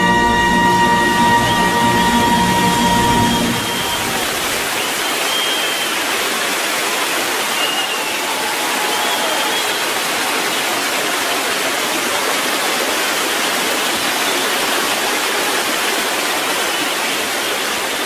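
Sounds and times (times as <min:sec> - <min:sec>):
stadium crowd noise: 0:00.0 - 0:18.0.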